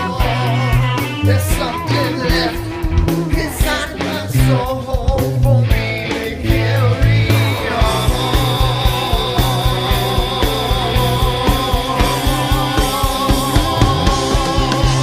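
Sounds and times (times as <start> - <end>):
rock song with vocals: 0.0 - 15.0.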